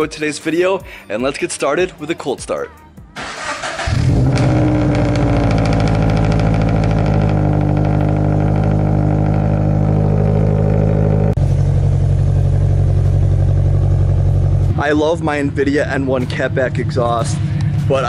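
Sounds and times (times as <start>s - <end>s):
car engine cold start and idle: 3.2s - 18.0s.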